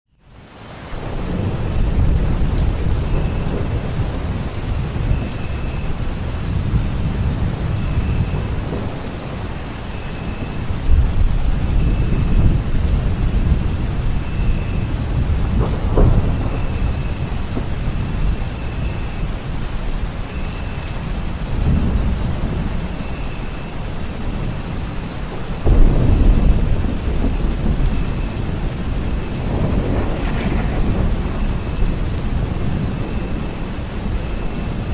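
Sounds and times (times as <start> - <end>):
steady rain: 0.2 - 34.9
rolling thunder: 1.0 - 23.3, 23.9 - 34.9.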